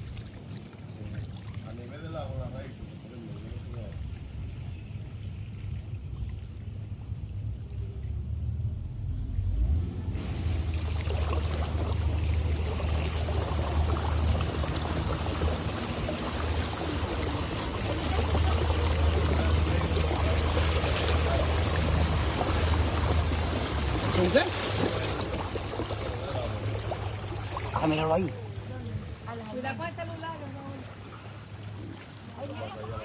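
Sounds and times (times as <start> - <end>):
water rushing and splashing: 0.0 - 33.0
motorboat engine drone: 3.4 - 33.0.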